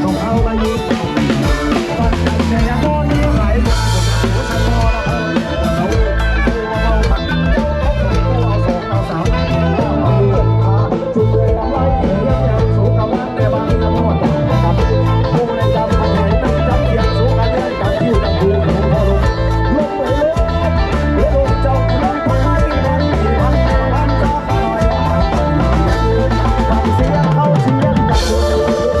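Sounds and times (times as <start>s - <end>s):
heavy bass: 0.0s - 29.0s
live band music: 0.0s - 29.0s
steady drum beat: 0.0s - 29.0s.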